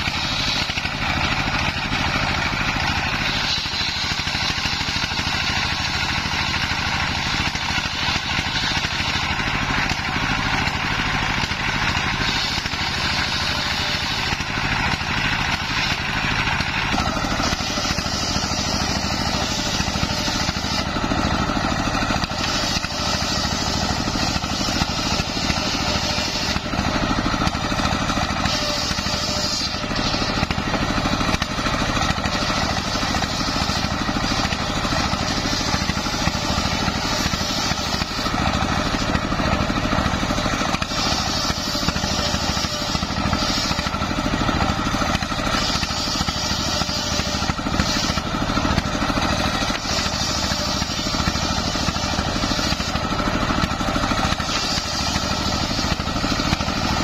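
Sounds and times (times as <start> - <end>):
circular saw ripping wood: 0.0 - 57.0
stationary engine running: 0.0 - 57.0.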